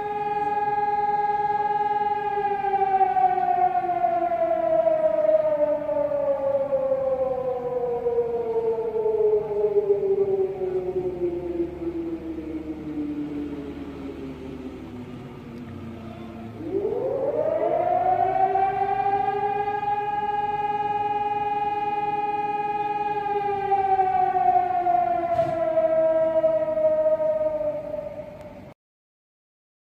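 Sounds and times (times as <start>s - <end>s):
civil defense siren wailing: 0.0s - 28.8s.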